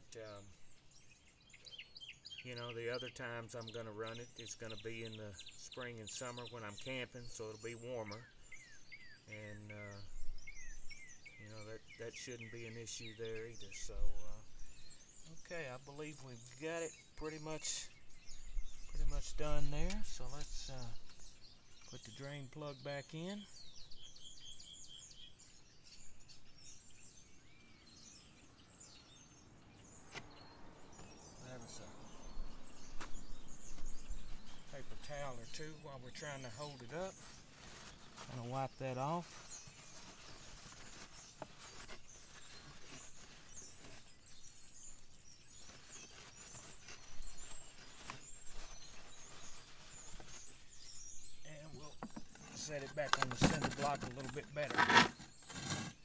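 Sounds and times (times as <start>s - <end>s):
faint birds chirping: 0.0s - 56.0s
outdoor background noise: 0.0s - 56.0s.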